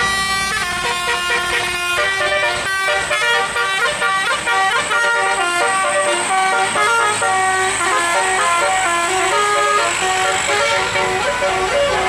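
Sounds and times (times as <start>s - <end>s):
multi-tone bus horn melody: 0.0s - 12.0s.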